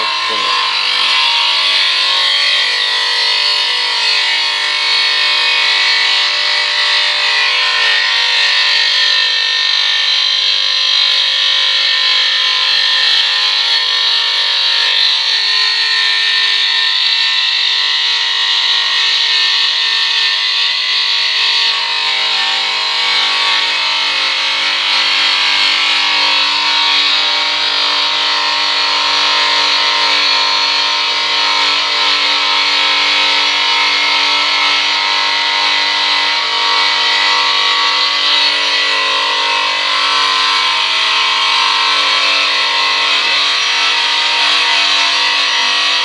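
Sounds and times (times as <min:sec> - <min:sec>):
electric tile cutter whining: 0:00.0 - 0:46.0.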